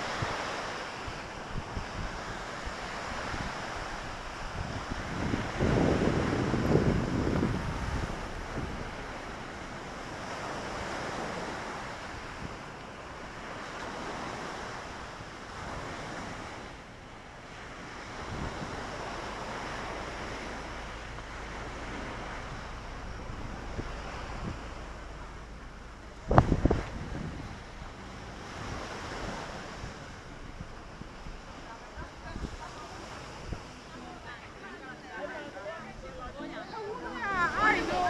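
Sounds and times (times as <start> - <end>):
wind on microphone: 0.0 - 34.0
waves washing onto shore: 0.0 - 38.0.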